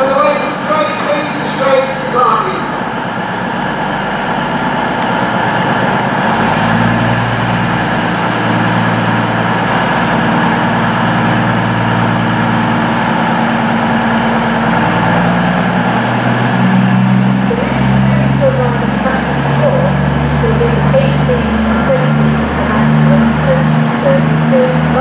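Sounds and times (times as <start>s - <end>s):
train diesel engine hum: 0.0s - 25.0s.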